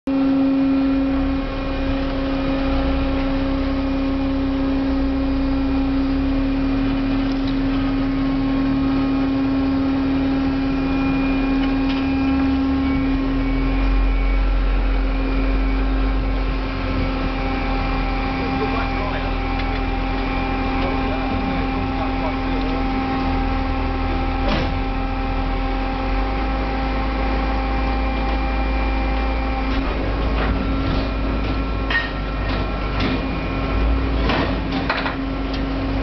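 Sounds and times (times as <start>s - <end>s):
deep rumble: 0.1s - 36.0s
waste compactor motor humming: 0.1s - 36.0s.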